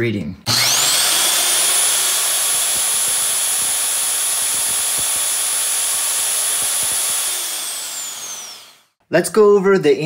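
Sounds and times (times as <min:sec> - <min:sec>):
small electric motor whining: 0:00.5 - 0:08.9.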